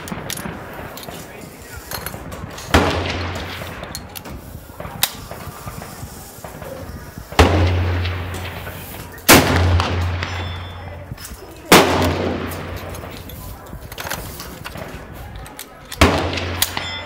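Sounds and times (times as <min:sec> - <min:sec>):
rifle shots with echo: 0:00.0 - 0:17.0.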